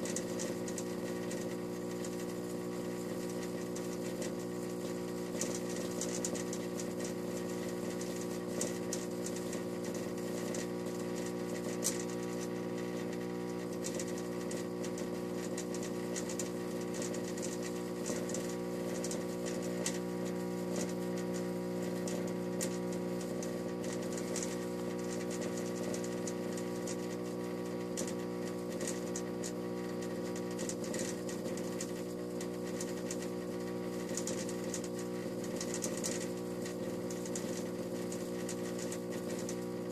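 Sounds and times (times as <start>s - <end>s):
faint crackles: 0.0s - 39.9s
fluorescent light buzzing hum: 0.0s - 39.9s.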